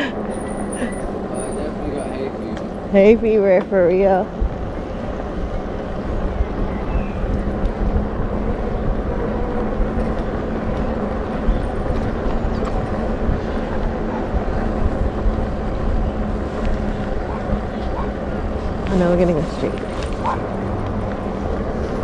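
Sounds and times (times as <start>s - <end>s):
tyres rumbling on asphalt: 0.0s - 22.0s
wind rushing over microphone: 0.0s - 22.0s.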